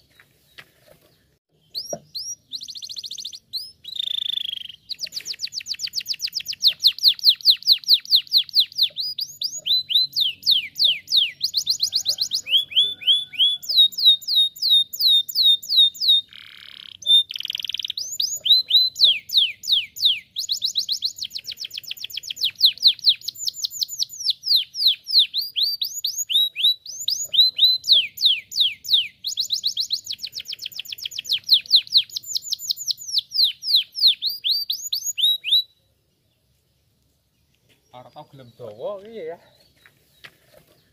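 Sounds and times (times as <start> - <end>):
canary singing fast trills: 1.5 - 39.8.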